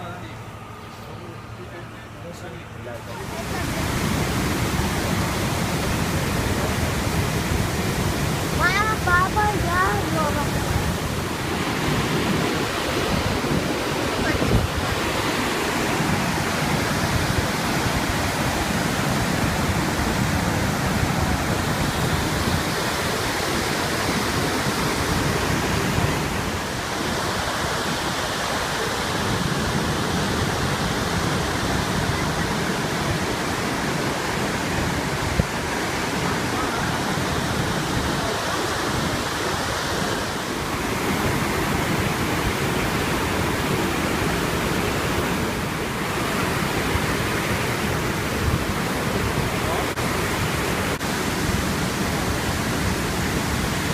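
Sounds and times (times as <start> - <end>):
waterfall rushing: 3.2 - 53.9.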